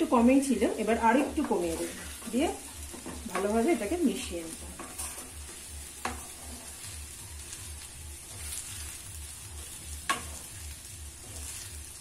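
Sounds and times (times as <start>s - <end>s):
food sizzling: 0.0s - 12.0s
spatula stirring in a pan: 0.8s - 12.0s.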